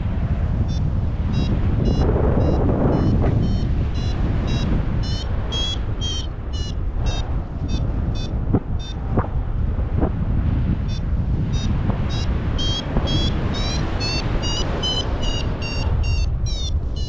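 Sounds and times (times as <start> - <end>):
wind buffeting microphone: 0.0 - 17.0
variometer beeping: 0.6 - 9.2, 10.8 - 17.0.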